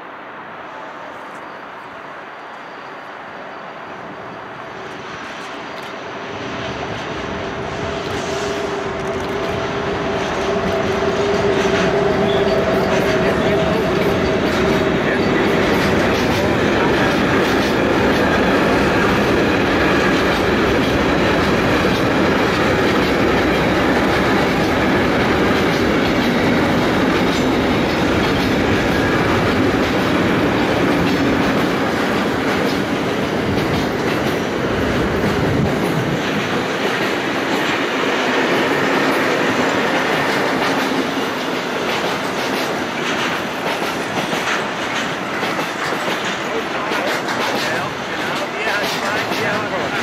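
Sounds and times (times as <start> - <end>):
freight train wagons rumbling: 2.4 - 50.0.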